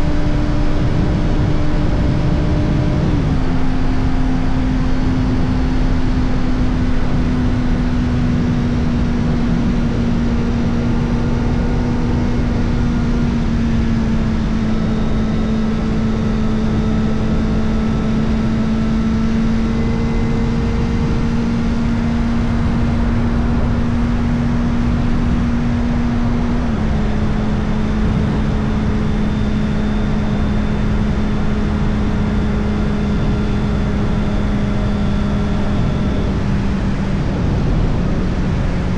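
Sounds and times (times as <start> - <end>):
heavy wind: 0.0 - 38.9
motorcycle engine cruising: 0.0 - 38.9
road rumble: 0.0 - 38.9.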